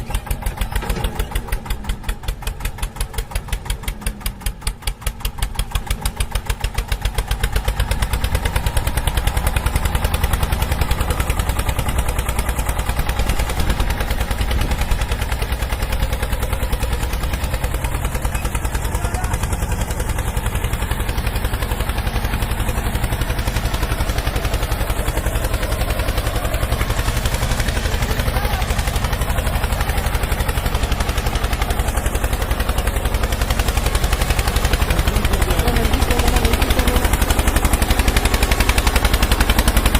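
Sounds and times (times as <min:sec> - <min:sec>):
small engine chugging: 0:00.0 - 0:39.9.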